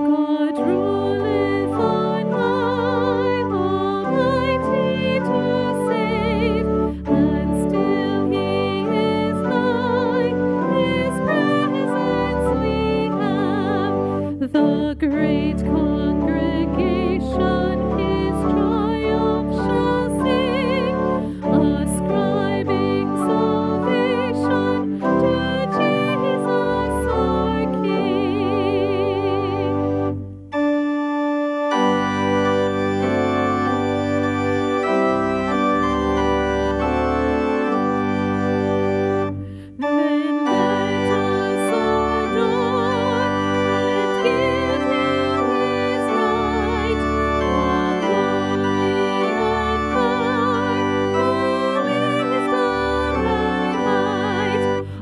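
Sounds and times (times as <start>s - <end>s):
woman singing a hymn: 0.0s - 30.2s, 39.6s - 55.0s
church organ: 0.0s - 55.0s.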